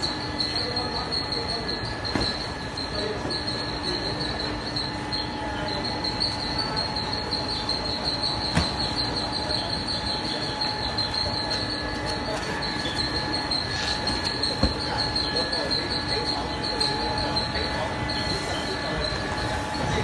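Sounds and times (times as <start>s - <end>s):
belt conveyors humming: 0.0s - 20.0s
high-pitched whine: 0.0s - 20.0s.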